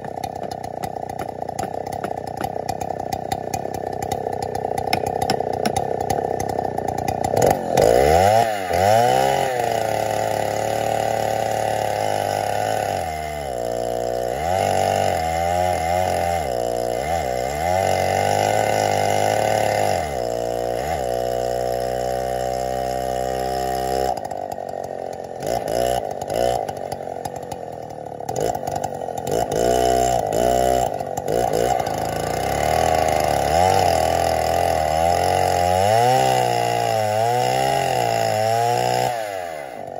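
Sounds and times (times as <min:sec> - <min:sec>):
chainsaw ripping through wood: 0:00.0 - 0:39.9.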